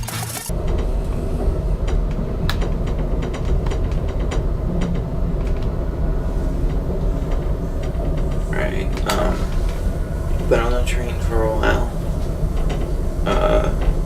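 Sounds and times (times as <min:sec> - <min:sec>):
train clicks and rattles: 0:00.0 - 0:14.0
train rumble: 0:00.5 - 0:14.0.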